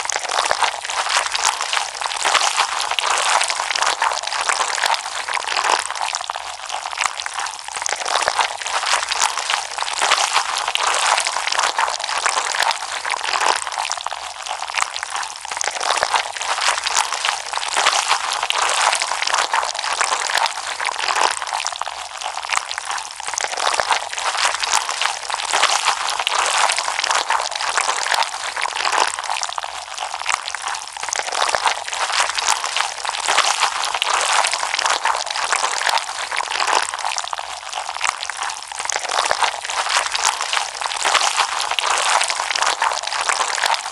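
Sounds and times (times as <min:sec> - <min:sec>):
slime squished crackling: 0:00.0 - 0:43.9.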